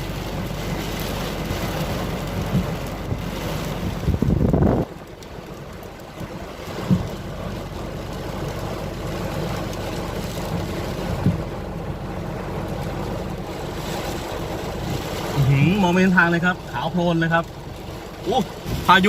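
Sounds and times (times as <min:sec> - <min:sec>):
heavy rain on a truck: 0:00.0 - 0:19.0
storm wind: 0:00.0 - 0:19.0
truck engine running low: 0:00.0 - 0:19.0.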